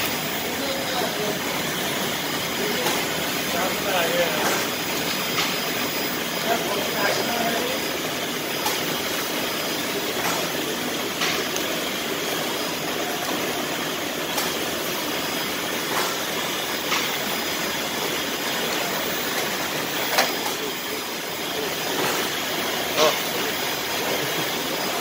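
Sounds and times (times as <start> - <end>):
factory machinery and conveyors running: 0.0 - 25.0.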